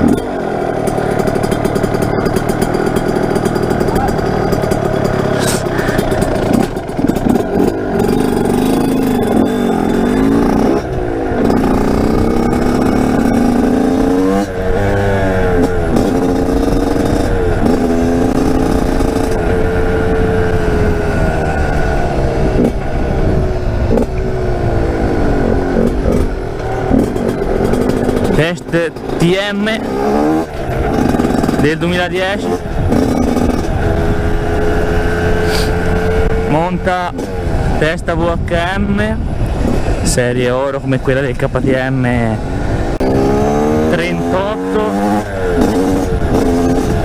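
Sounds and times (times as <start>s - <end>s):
two-stroke motorcycle engine revving: 0.0s - 47.0s.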